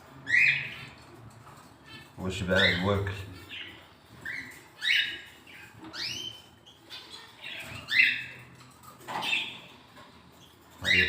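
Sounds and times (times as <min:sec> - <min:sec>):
bird chicks begging calls: 0:00.0 - 0:11.0.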